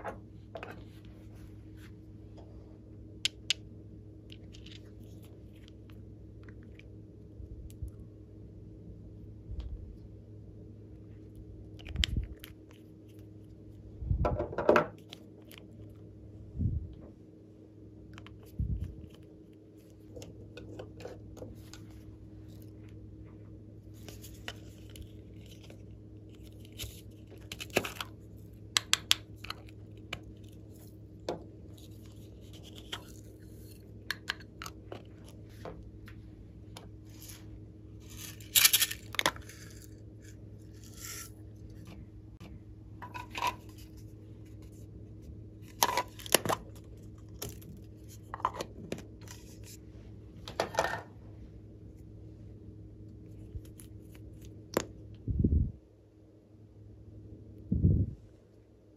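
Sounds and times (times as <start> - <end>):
faint low hum: 0.0 - 58.9.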